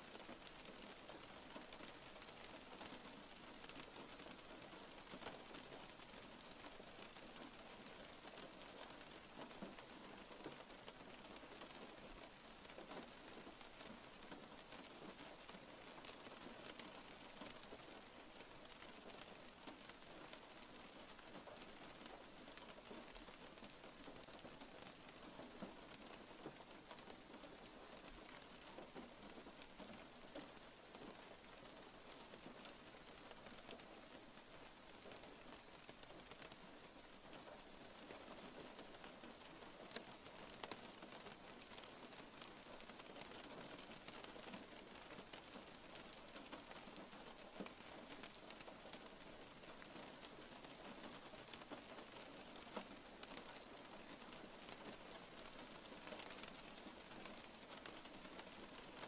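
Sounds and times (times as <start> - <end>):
quiet rain falling: 0.0 - 59.0.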